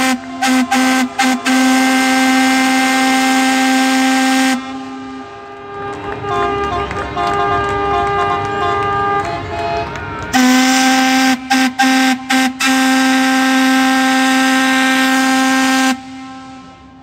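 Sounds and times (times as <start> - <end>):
boat horns overlapping: 0.0 - 17.0
loud low boat horn: 0.0 - 17.0.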